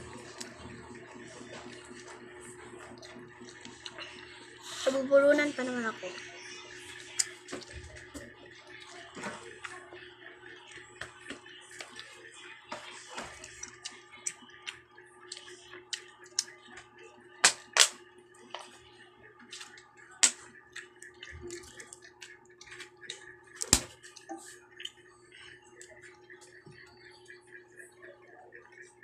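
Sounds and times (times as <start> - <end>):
children eating with mouth smacks: 0.1 - 5.0, 6.2 - 10.0, 10.7 - 16.9, 18.5 - 27.6.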